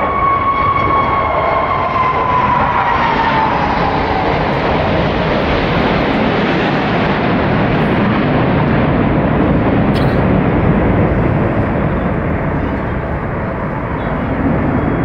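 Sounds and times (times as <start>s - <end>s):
military aircraft flying over: 0.0s - 15.0s.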